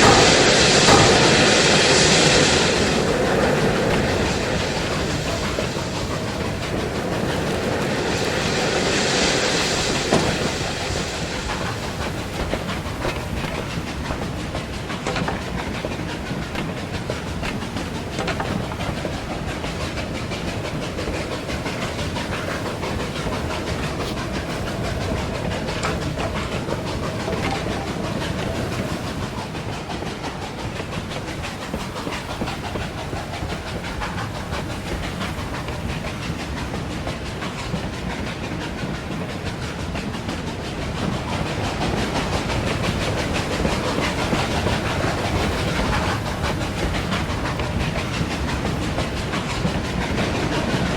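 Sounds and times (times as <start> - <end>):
rhythmic clatter of train wheels: 0.0 - 50.9
steam hissing: 0.0 - 50.9.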